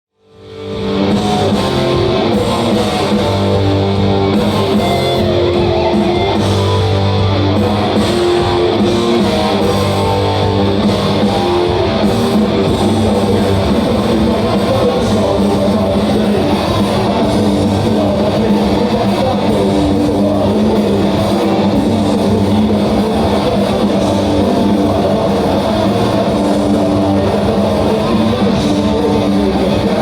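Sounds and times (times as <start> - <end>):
heavy metal band playing: 0.3 - 30.0.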